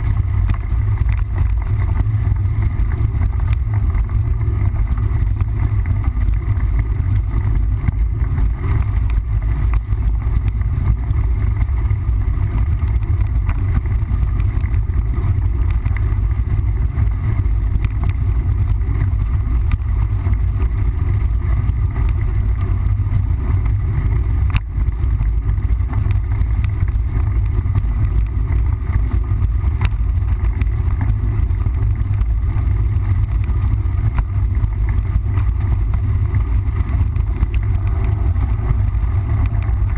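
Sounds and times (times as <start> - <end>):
bike rolling on trail: 0.0 - 39.9
wind rumble: 0.0 - 39.9.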